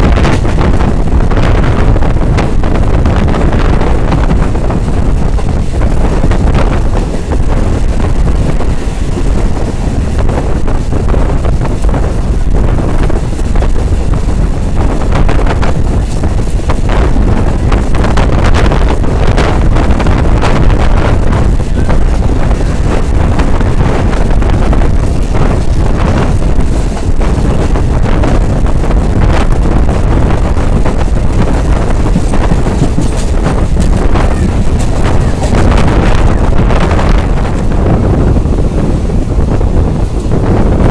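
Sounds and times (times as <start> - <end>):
train running at speed: 0.0 - 40.9
wind buffeting microphone: 0.0 - 40.9.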